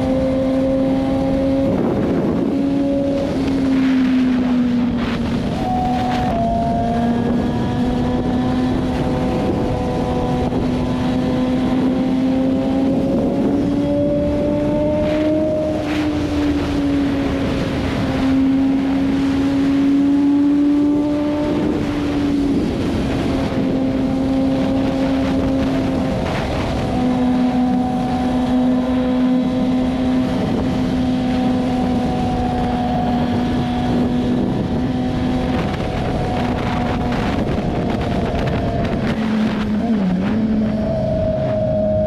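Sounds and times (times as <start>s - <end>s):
motorcycle engine cruising: 0.0s - 42.0s
wind on microphone: 0.0s - 42.0s.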